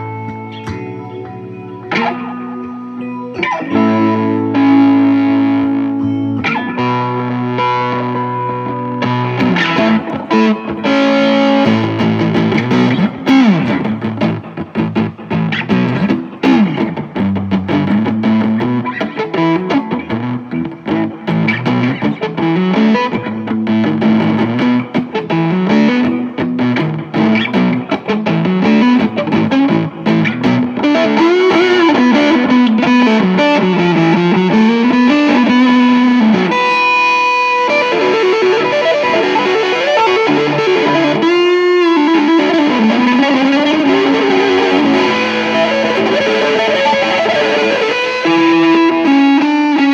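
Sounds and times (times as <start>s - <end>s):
distorted electric guitar lead: 0.0s - 49.9s.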